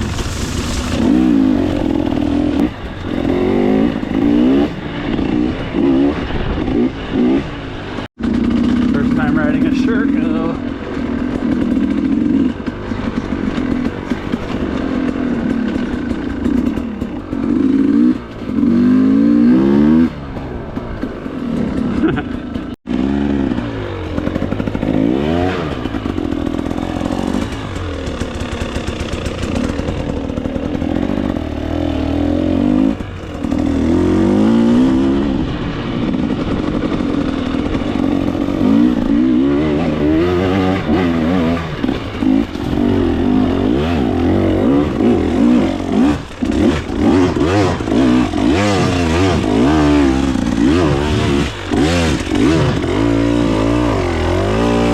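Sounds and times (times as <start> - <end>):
bike rattling: 0.0 - 54.9
motorcycle engine revving: 0.0 - 54.9.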